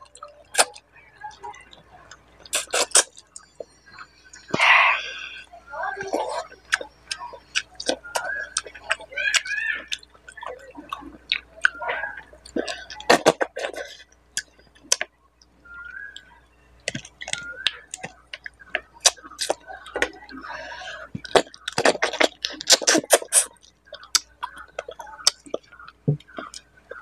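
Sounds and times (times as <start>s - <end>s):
person chewing and lip-smacking: 0.1s - 0.8s, 1.6s - 20.5s, 21.1s - 27.0s.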